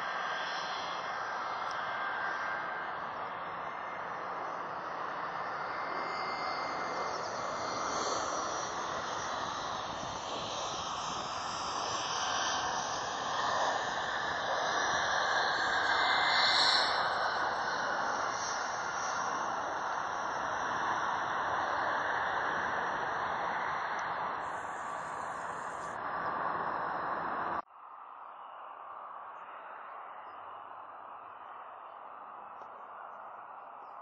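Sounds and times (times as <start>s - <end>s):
jet engine rushing: 0.0s - 27.6s.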